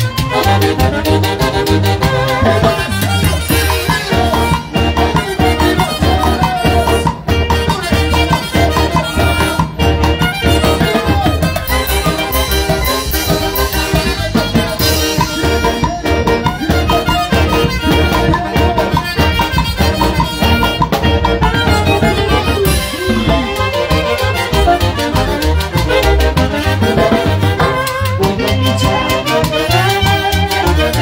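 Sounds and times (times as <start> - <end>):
drum kit snare and cymbals: 0.0 - 31.0
trumpets and woodwind melody: 0.0 - 31.0.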